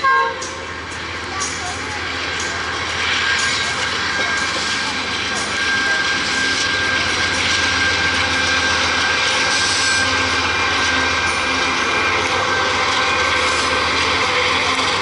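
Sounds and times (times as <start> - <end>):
diesel locomotive engine rumble: 0.0 - 15.0
train wheels on rails: 0.0 - 15.0.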